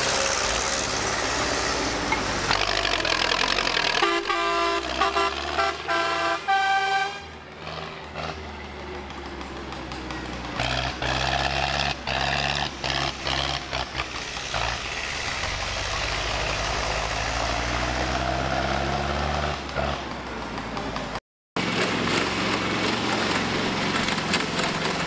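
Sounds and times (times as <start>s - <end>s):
tractor engine drone: 0.0s - 25.0s.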